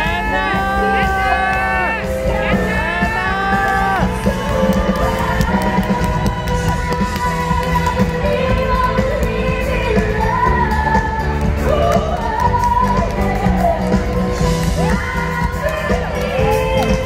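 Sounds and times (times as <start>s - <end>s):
live band pop song: 0.0s - 17.0s.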